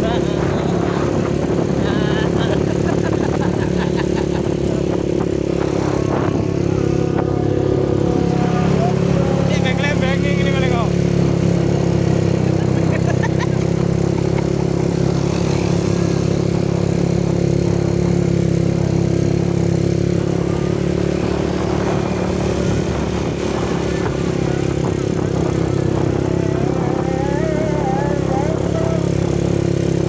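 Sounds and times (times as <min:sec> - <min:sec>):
small motorcycle engine running: 0:00.0 - 0:30.0.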